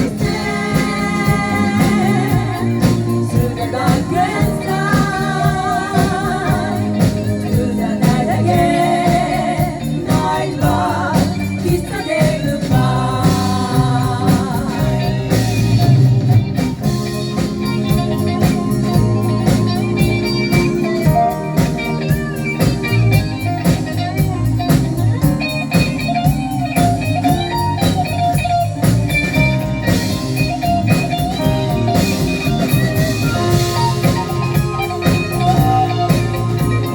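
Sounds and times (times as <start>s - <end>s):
jazz-funk song with vocals: 0.0s - 36.9s.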